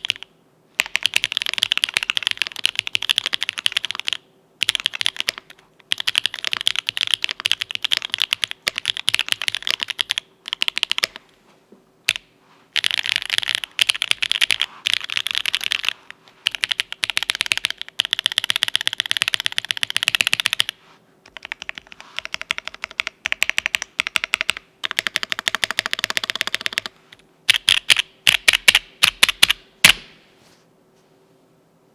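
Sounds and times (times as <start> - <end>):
mechanical keyboard typing: 0.0 - 11.2, 12.1 - 26.9, 27.5 - 30.0.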